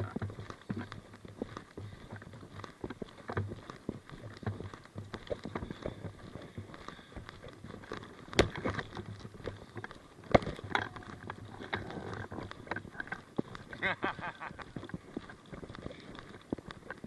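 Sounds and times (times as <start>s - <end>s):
footsteps on rough ground: 0.0s - 17.0s.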